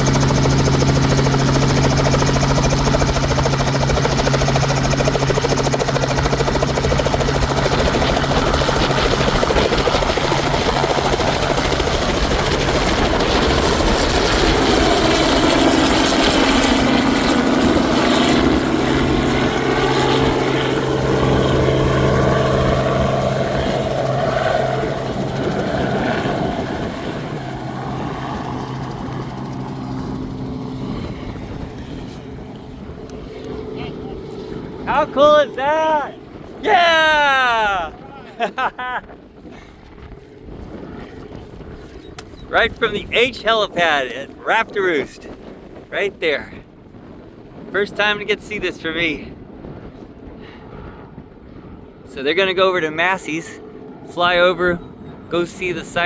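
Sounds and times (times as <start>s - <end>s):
helicopter lifting off: 0.0s - 56.0s.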